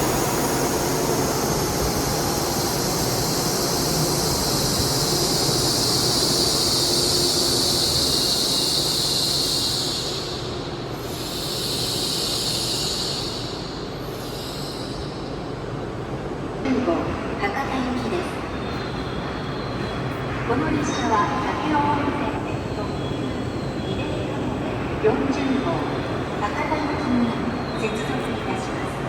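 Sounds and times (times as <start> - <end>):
train rolling and hissing: 0.0 - 16.7, 17.6 - 29.0.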